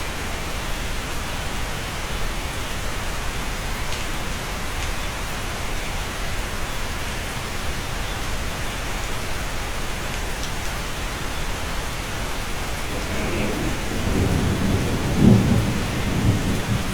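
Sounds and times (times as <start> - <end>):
steady rain: 0.0 - 16.9.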